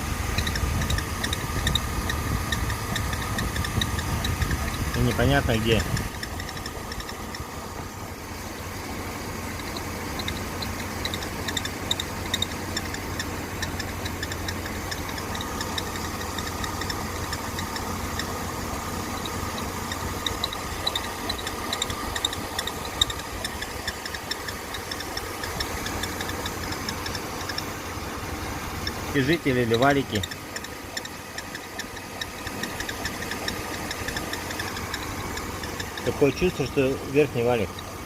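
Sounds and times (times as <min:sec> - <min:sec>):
car engine idling: 0:00.0 - 0:38.0
drive belt chirping squeak: 0:00.0 - 0:38.0.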